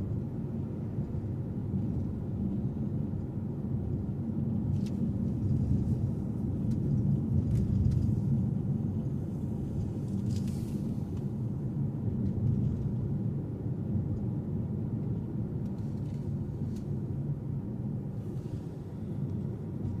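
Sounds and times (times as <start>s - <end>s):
car driving engine and tyre noise: 0.0s - 20.0s.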